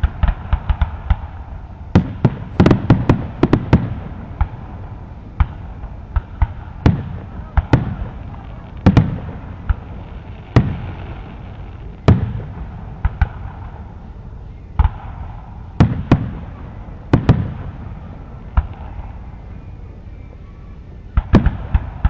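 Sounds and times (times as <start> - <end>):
fireworks bursting: 0.0 - 22.0
low rumbling echo: 0.0 - 22.0.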